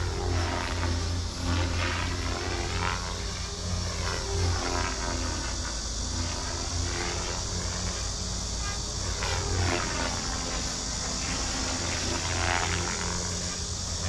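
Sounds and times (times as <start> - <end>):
model helicopter rotor whine: 0.0 - 14.0
steady low hum: 0.0 - 14.0.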